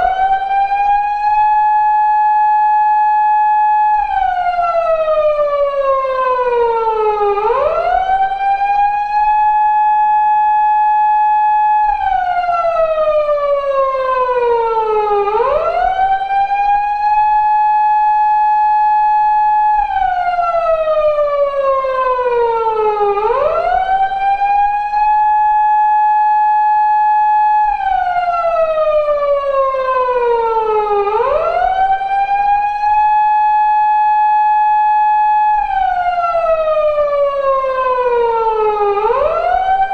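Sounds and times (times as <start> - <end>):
police car wail siren: 0.0 - 39.9.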